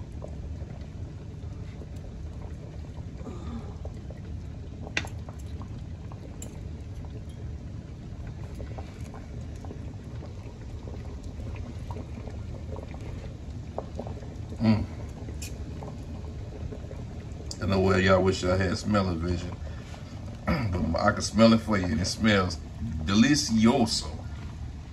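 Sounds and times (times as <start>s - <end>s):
broth bubbling in a pot: 0.0s - 24.9s.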